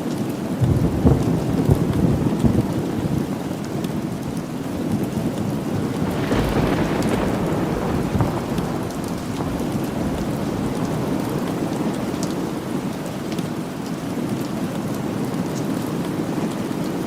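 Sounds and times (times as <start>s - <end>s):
steady rain falling: 0.0s - 17.0s
low rumble of thunder: 0.6s - 14.4s.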